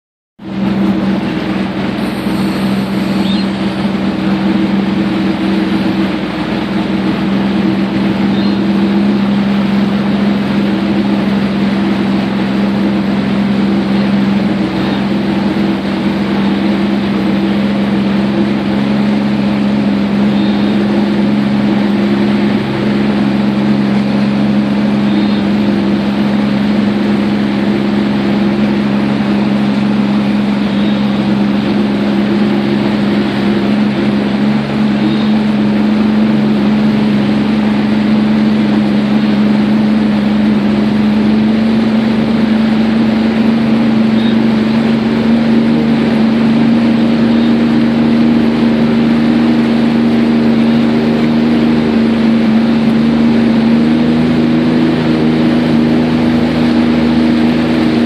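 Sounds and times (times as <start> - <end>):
watercraft engine droning: 0.4 - 58.0.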